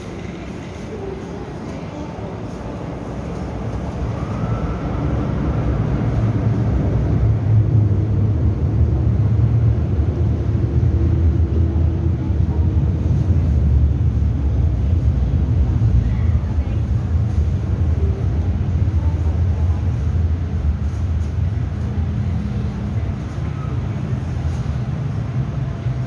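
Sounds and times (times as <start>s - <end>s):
train rumbling through station: 0.0s - 26.0s.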